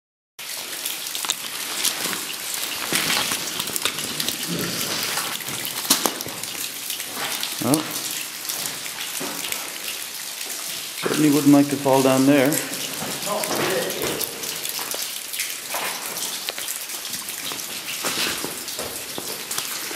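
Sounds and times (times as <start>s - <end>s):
dripping water patter: 0.4s - 19.9s
sharp drips and clicks: 0.4s - 19.9s.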